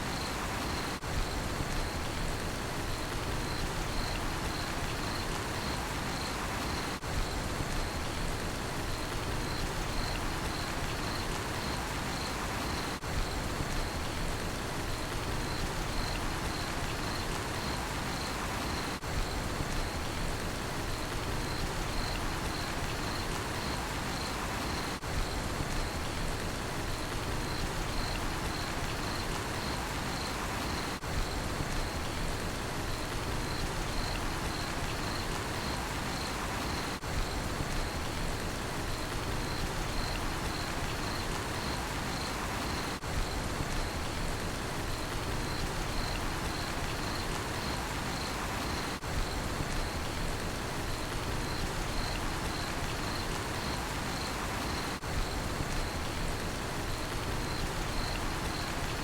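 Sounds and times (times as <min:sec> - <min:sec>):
cricket chirping: 0:00.0 - 0:02.2, 0:02.9 - 0:08.2, 0:08.9 - 0:14.2, 0:14.9 - 0:20.2, 0:20.8 - 0:26.2, 0:27.0 - 0:32.2, 0:32.8 - 0:59.0
steady rain falling: 0:00.0 - 0:59.0.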